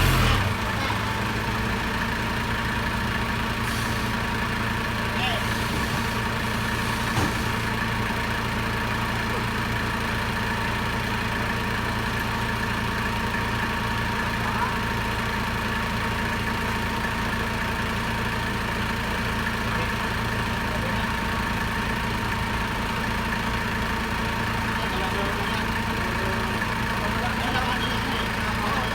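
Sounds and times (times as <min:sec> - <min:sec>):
forklift engine idling: 0:00.0 - 0:28.9.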